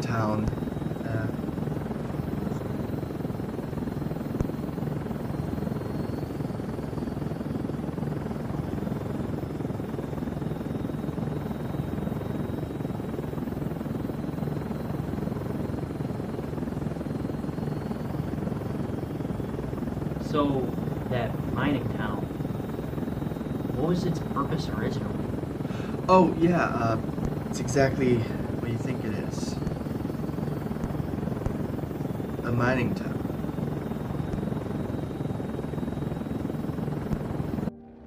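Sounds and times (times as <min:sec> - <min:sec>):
helicopter rotor and engine drone: 0:00.0 - 0:38.0.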